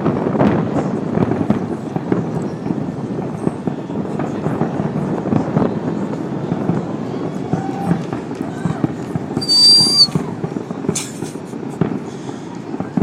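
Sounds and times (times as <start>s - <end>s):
distant fireworks booms and crackles: 0.0s - 13.0s.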